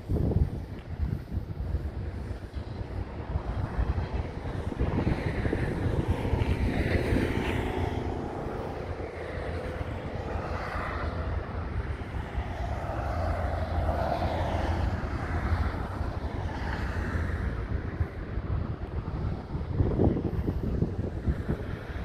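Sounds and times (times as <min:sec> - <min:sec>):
passing vehicle engine rumble: 0:00.0 - 0:22.0
wind buffeting microphone: 0:00.0 - 0:22.0.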